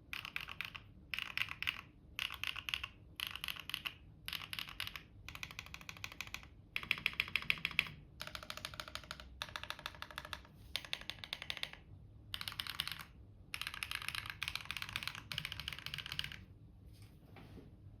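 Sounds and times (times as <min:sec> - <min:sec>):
rapid mechanical keyboard typing: 0:00.0 - 0:16.5.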